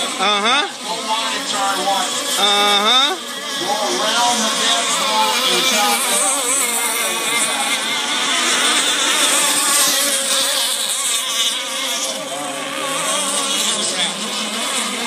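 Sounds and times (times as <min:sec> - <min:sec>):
racing boat engines whining: 0:00.0 - 0:15.0.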